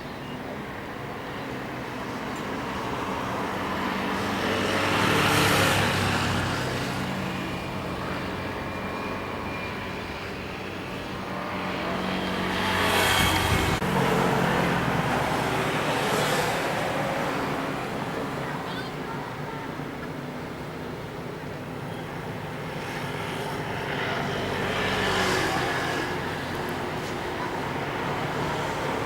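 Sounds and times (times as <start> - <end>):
vehicle engine noise: 0.4 - 29.0.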